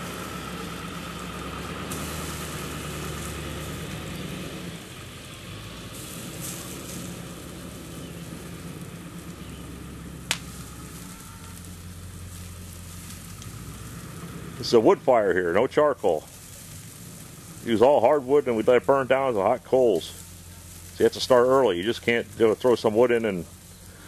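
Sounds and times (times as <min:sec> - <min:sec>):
chicken sizzling over coals: 0:00.0 - 0:24.0
diesel engine running: 0:00.0 - 0:24.0.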